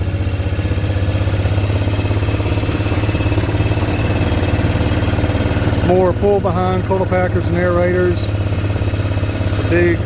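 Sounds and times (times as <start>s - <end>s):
vehicle engine throbbing: 0.0s - 10.0s.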